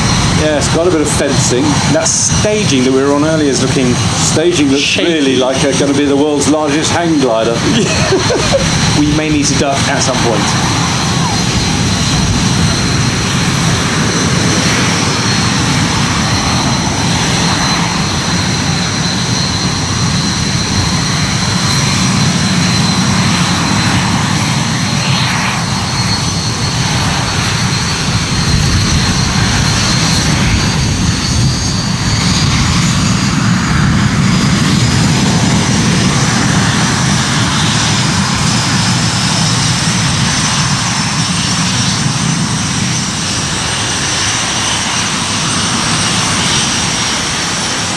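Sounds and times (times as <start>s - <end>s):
aircraft engines droning: 0.0s - 47.9s
high whine: 0.0s - 47.9s.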